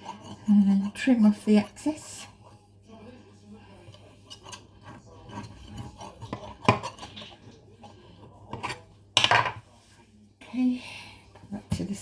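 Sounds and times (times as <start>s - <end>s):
metal utensil scraping pie dish: 0.0s - 9.8s.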